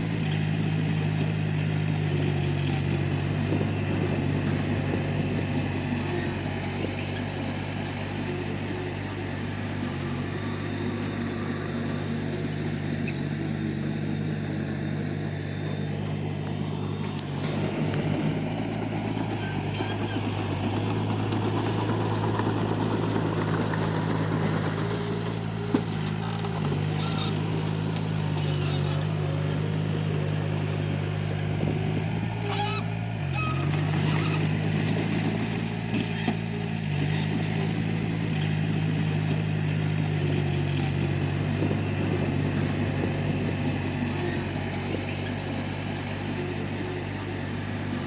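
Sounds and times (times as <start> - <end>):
bulldozer diesel engine drone: 0.0 - 48.0.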